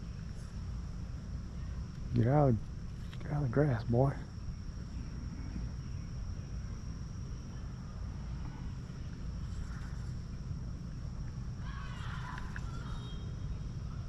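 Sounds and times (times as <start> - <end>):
insects buzzing: 0.0 - 14.0
steady low rumble: 0.0 - 14.0.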